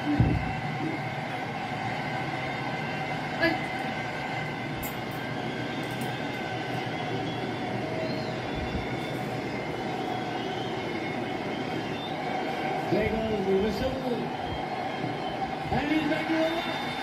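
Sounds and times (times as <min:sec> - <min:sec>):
stadium crowd noise on television: 0:00.0 - 0:17.0.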